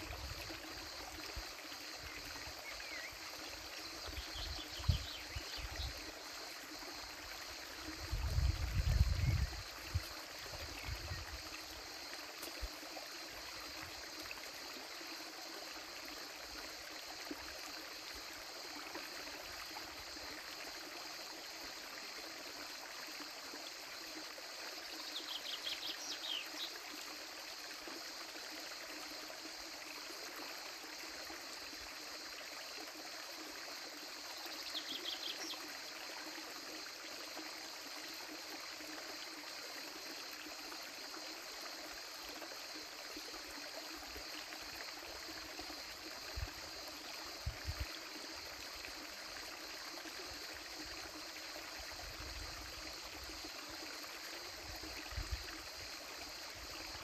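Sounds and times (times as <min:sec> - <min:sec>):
creek water babbling over rocks: 0:00.0 - 0:57.0.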